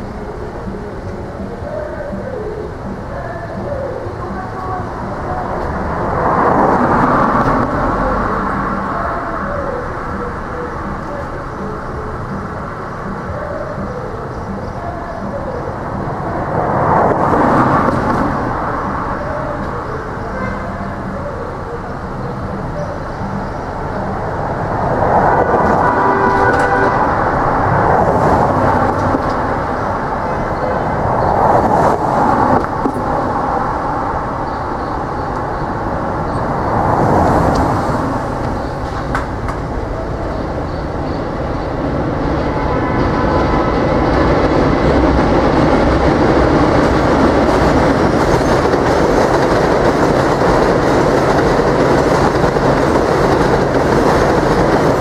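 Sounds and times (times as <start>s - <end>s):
cars passing: 0.0s - 55.0s
subway train rumbling and clattering: 0.0s - 55.0s.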